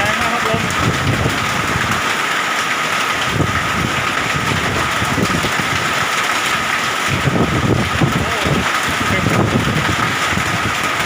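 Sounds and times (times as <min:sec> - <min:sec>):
wind buffeting microphone: 0:00.0 - 0:02.3, 0:03.0 - 0:11.0
heavy rain and hail hissing: 0:00.0 - 0:11.0.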